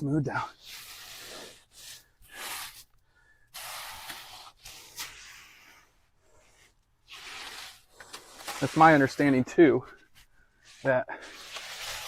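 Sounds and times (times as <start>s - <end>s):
tool scraping wet concrete: 0.4s - 12.0s.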